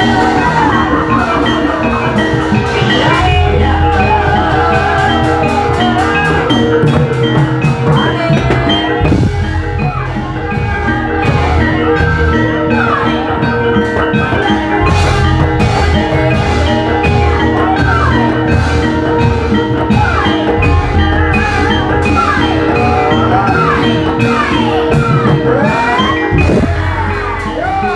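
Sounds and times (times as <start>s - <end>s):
sliding melody line: 0.0s - 27.9s
steady drumming: 0.0s - 27.9s
struck mallet percussion notes: 0.0s - 27.9s.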